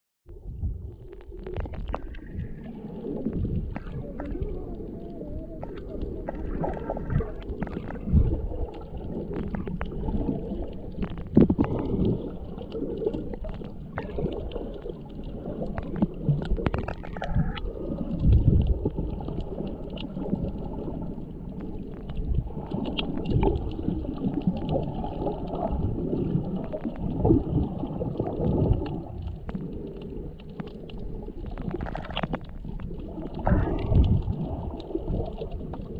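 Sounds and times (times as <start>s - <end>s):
muffled underwater surf rumble: 0.3s - 35.9s
underwater clicks and gurgles: 0.3s - 35.9s.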